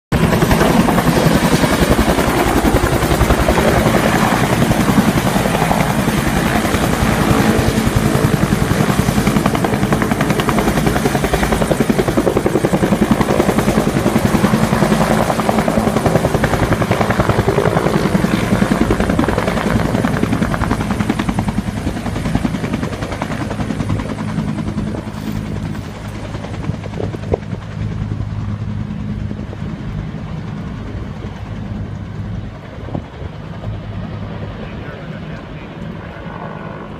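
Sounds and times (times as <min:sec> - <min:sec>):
helicopter rotor beating: 0:00.1 - 0:36.9.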